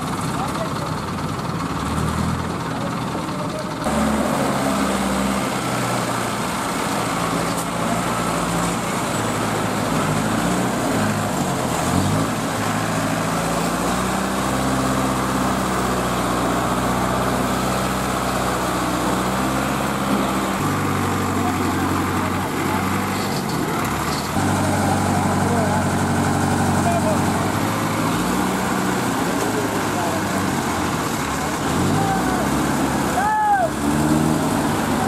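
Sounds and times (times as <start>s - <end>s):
diesel crane engines running: 0.0s - 35.0s.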